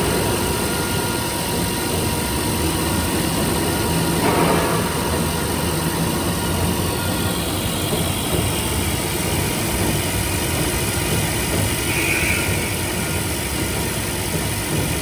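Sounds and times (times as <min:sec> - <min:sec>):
milling machine humming: 0:00.0 - 0:15.0.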